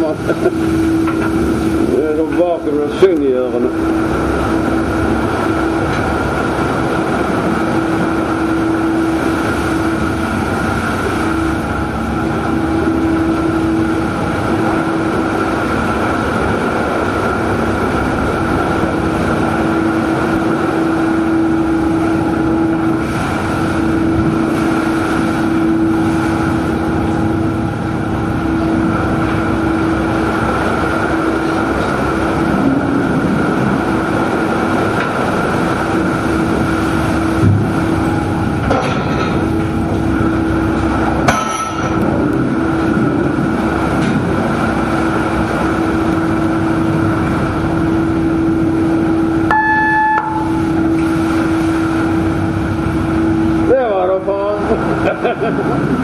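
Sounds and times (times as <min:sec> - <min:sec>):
boat engine drone: 0:00.0 - 0:56.0
machinery hum: 0:00.0 - 0:56.0.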